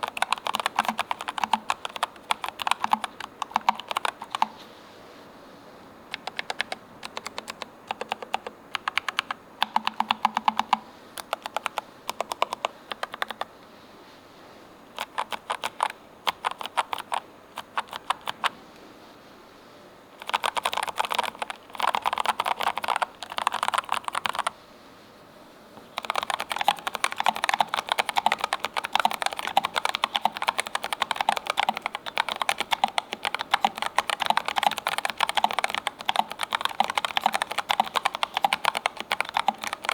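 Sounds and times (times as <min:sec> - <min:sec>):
mechanical keyboard typing: 0:00.0 - 0:04.6, 0:06.1 - 0:13.5, 0:14.9 - 0:18.5, 0:20.2 - 0:24.6, 0:25.8 - 0:39.9.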